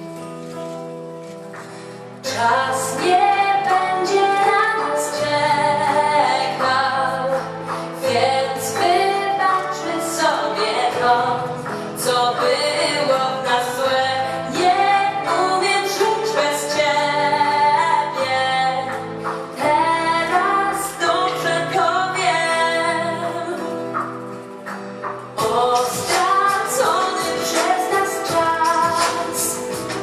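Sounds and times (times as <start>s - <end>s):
woman singing: 2.2s - 24.1s, 25.4s - 30.0s.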